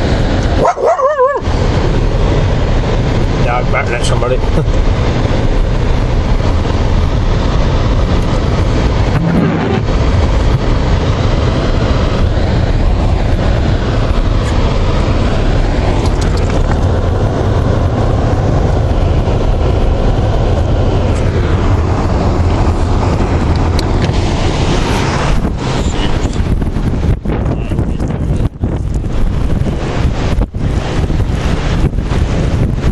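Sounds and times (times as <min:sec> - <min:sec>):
vehicle driving rumble: 0:00.0 - 0:32.9
wind noise on microphone: 0:00.0 - 0:32.9.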